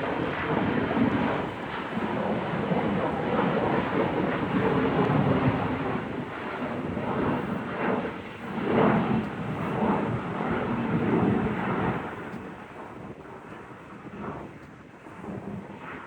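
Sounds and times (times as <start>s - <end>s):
jet engines rumbling at takeoff: 0.0s - 16.0s.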